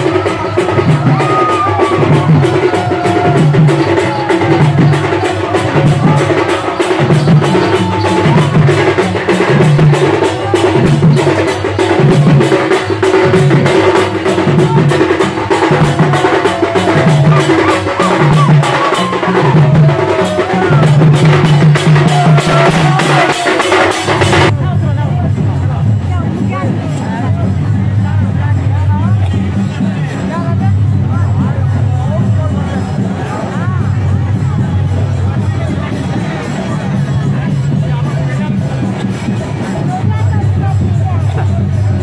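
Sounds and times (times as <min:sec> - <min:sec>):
deep drum beat: 0:00.0 - 0:42.0
rapid drum strokes: 0:00.0 - 0:42.0.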